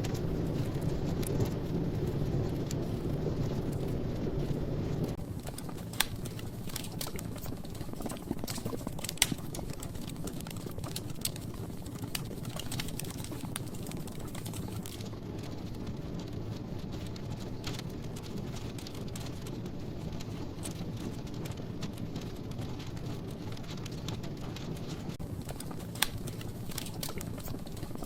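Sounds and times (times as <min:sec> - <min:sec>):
fire crackling and popping: 0:00.0 - 0:28.0
fire flames rumbling: 0:00.0 - 0:28.0.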